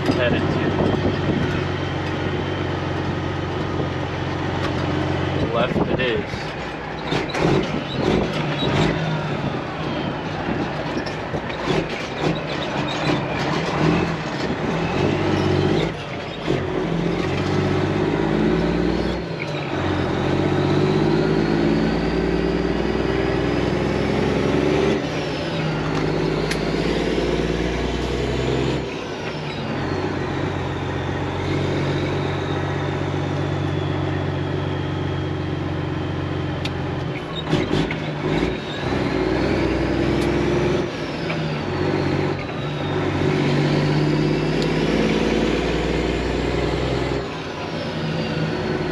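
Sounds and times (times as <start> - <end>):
diesel truck engine shifting gears: 0.0 - 48.9.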